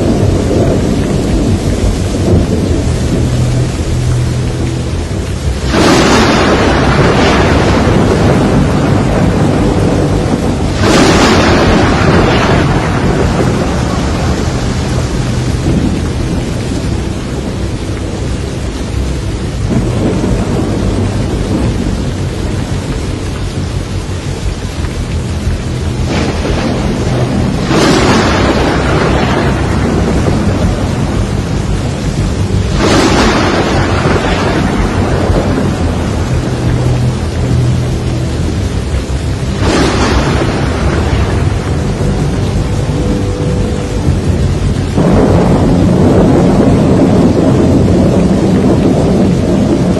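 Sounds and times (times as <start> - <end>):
heavy rain: 0.0 - 49.9
thunderclaps rolling: 0.0 - 49.9.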